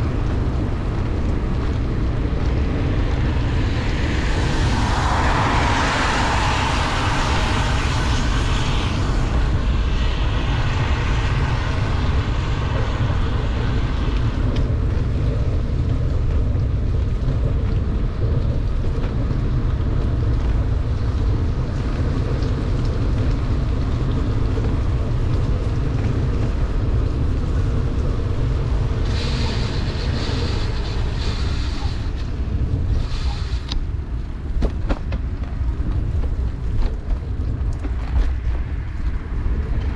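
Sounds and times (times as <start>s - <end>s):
hiss from wet road: 0.0s - 39.9s
wind buffeting microphone: 0.0s - 39.9s.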